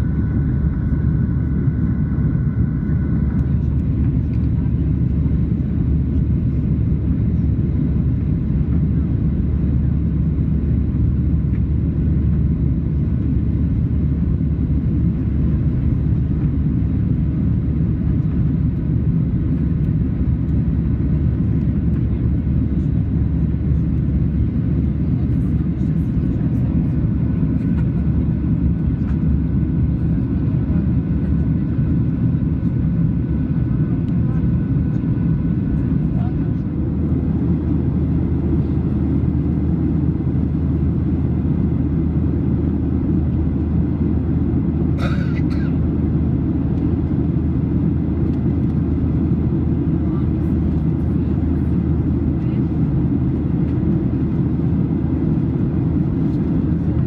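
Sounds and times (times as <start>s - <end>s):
airliner cabin drone: 0.0s - 57.0s.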